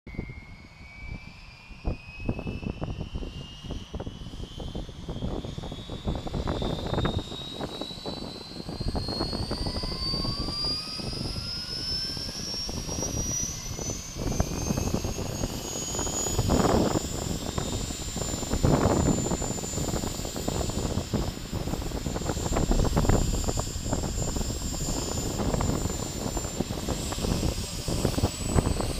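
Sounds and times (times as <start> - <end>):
helicopter rotor rumble: 0.1 - 28.9
helicopter turbine whine: 0.1 - 28.9.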